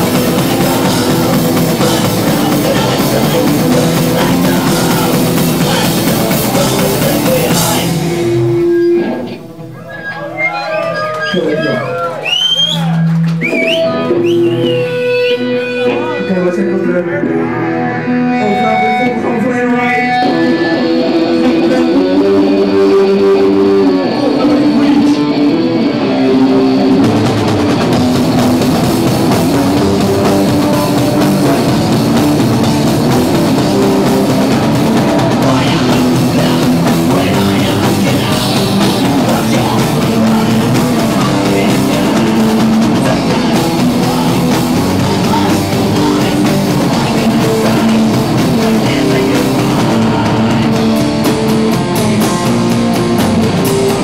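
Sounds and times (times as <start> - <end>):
electric guitar: 0.0 - 54.0
rock band playing loudly: 0.0 - 54.0.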